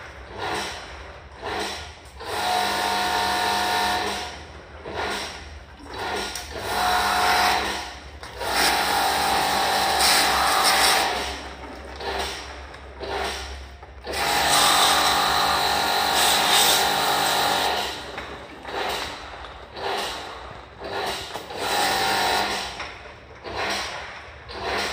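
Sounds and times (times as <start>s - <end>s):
pressure washer pump whining: 0.0s - 24.9s.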